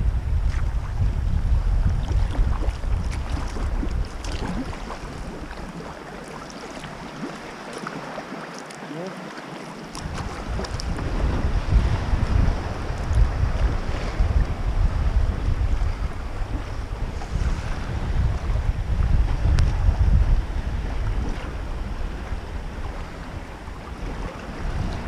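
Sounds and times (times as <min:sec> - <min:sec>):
wind buffeting microphone: 0:00.0 - 0:07.4, 0:09.9 - 0:25.0
water splashing and lapping: 0:00.4 - 0:25.0.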